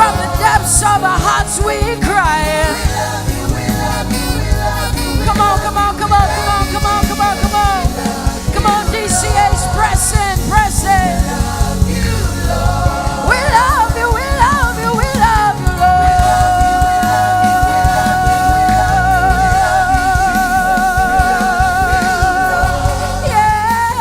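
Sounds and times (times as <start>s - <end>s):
gospel band playing: 0.0s - 24.0s.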